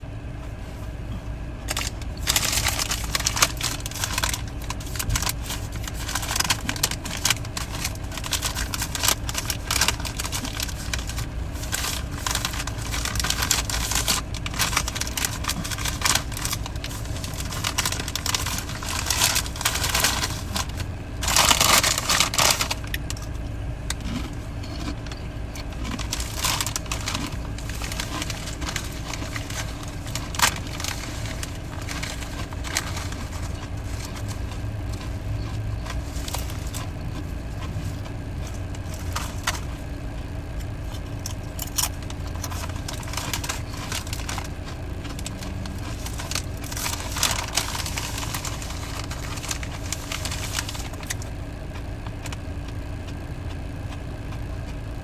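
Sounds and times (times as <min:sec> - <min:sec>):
chewing bubble gum: 0:01.6 - 0:55.0
rustling: 0:01.7 - 0:23.3, 0:24.0 - 0:39.9, 0:40.8 - 0:51.2.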